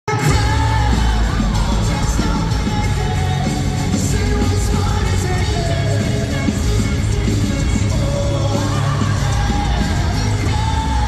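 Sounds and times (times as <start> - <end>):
crowd yelling and whooping: 0.1 - 11.0
live band with singing: 0.1 - 11.0.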